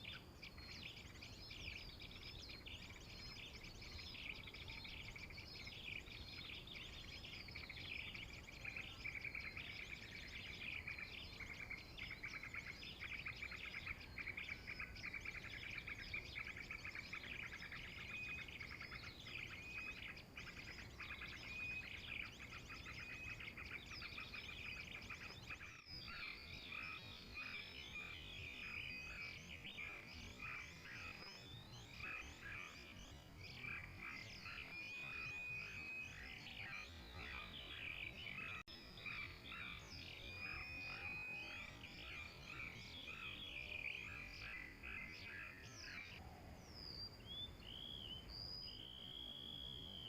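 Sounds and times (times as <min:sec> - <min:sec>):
small birds chirping and twittering: 0:00.0 - 0:50.0.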